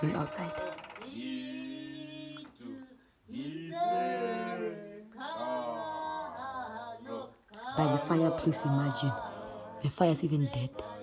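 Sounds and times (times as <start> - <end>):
group singing unaccompanied: 0.0 - 11.0.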